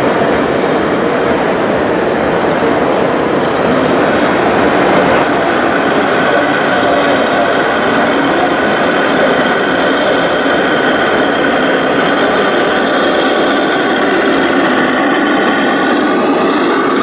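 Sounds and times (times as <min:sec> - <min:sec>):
electronic truck engine sound: 0:00.0 - 0:17.0.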